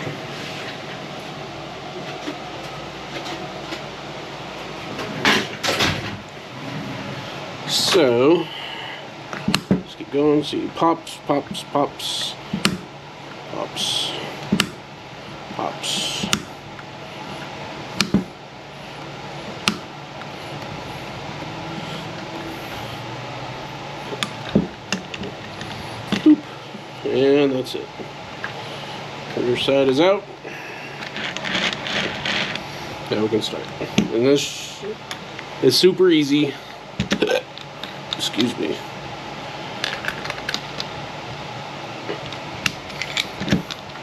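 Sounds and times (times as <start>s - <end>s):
background hum: 0.0s - 44.0s.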